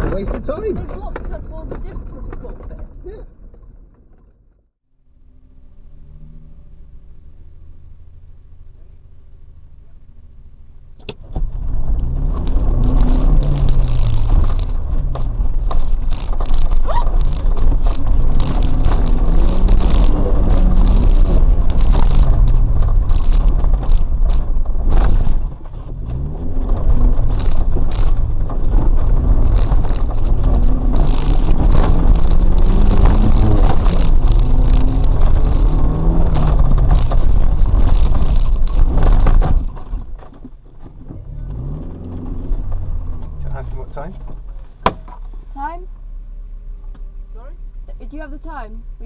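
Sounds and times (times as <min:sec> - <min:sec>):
car engine revving: 0:05.0 - 0:49.0.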